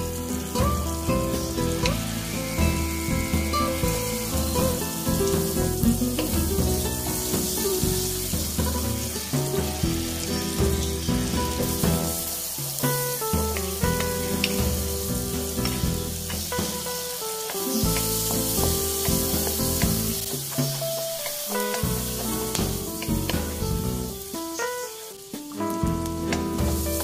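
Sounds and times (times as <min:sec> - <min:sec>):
background music: 0:00.0 - 0:27.0
butter sizzling in a wok: 0:00.0 - 0:27.0.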